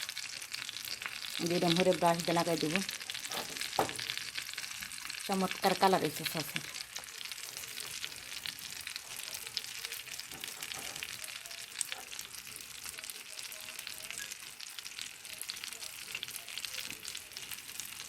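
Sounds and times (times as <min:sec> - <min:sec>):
kebabs sizzling and crackling: 0:00.0 - 0:18.0.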